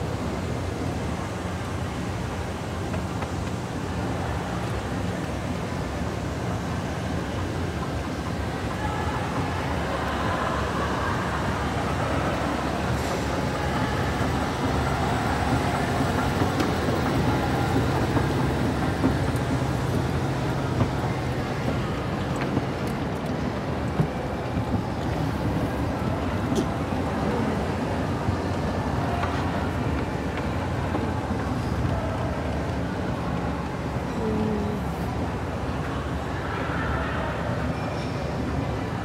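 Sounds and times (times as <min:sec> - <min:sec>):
escalator mechanical hum: 0:00.0 - 0:39.0.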